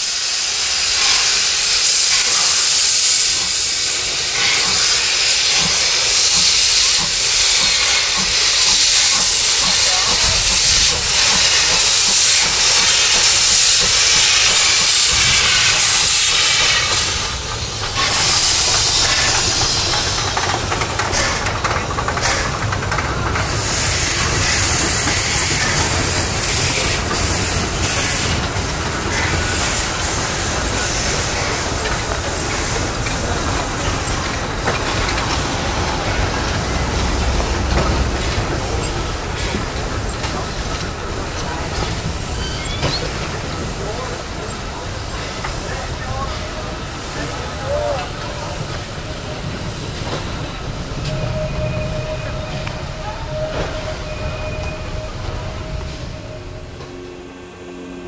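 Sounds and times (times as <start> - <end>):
carriages rumbling over rails: 0.0 - 58.0
steam locomotive hissing: 0.0 - 58.0.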